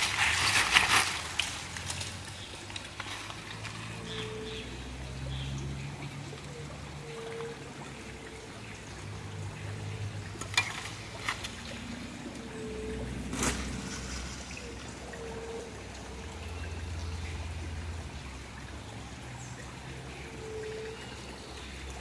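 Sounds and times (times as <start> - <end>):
creek trickling: 0.0 - 22.0.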